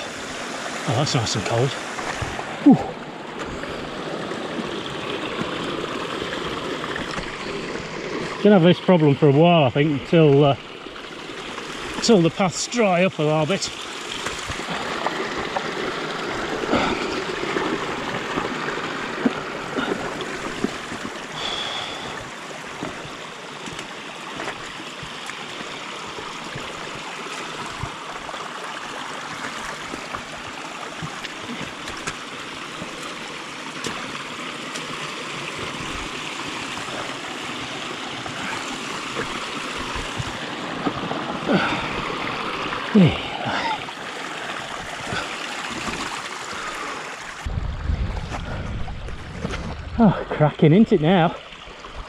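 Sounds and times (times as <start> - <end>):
water running down a path: 0.0 - 47.5.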